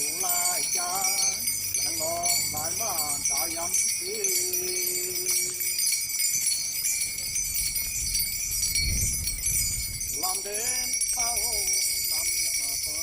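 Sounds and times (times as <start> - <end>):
small bells jingling: 0.0 - 13.0.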